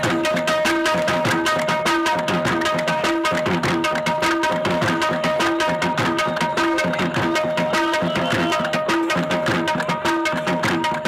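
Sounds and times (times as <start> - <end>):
hand-drum dance music: 0.0 - 11.0.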